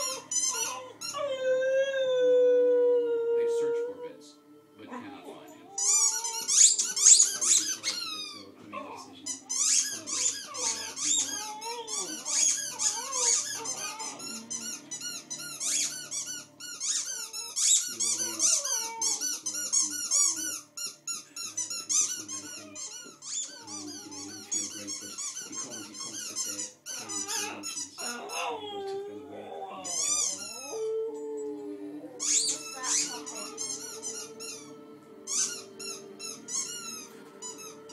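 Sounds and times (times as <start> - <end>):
high-pitched squeaks: 0.0 - 1.5, 5.7 - 8.5, 9.3 - 29.0, 29.8 - 31.3, 32.2 - 37.9
dog howling and whining: 0.0 - 24.6, 26.6 - 37.9.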